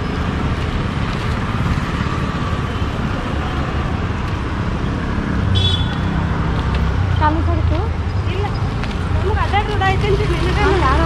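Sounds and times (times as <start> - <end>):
motorcycles and rickshaws passing: 0.0 - 11.0.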